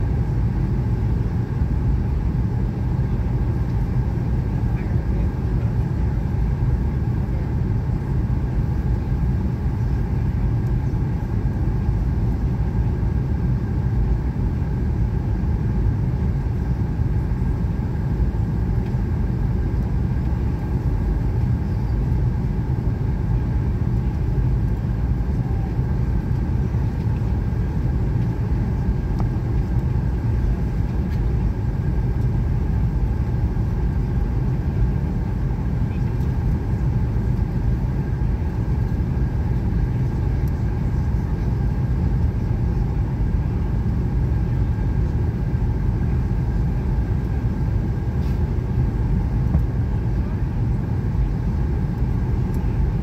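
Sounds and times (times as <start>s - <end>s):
airliner cabin engine roar: 0.0s - 53.0s.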